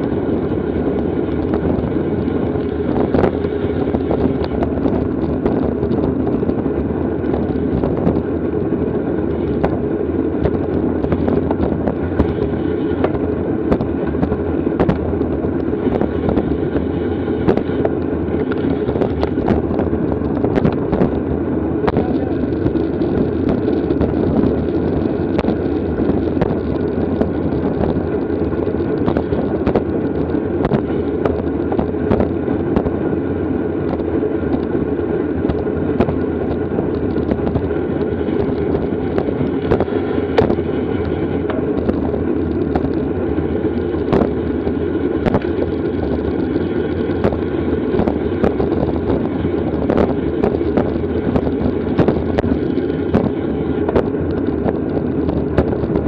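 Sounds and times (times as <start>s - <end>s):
bicycle rattles and knocks: 0.0s - 56.0s
wind buffeting microphone: 0.0s - 56.0s.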